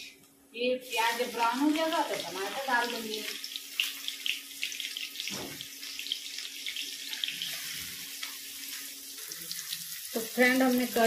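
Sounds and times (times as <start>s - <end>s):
seeds sizzling in hot oil: 0.8s - 11.0s.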